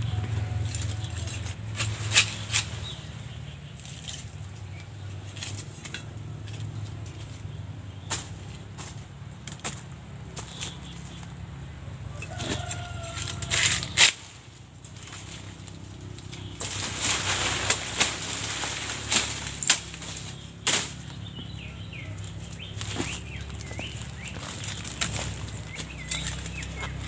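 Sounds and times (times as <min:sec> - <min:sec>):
dry leaves rustling and crackling: 0:00.0 - 0:27.0
twigs snapping: 0:03.6 - 0:11.4, 0:12.2 - 0:27.0.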